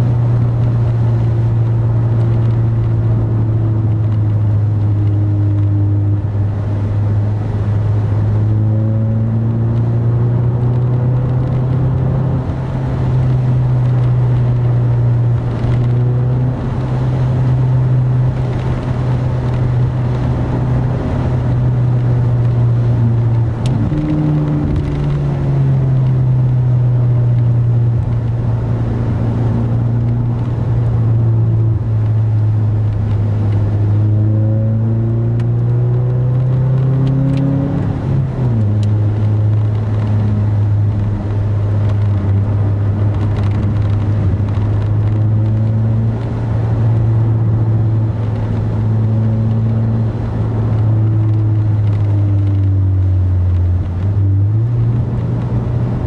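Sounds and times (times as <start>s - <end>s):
car exhaust drone: 0.0s - 56.0s
road noise: 0.0s - 56.0s.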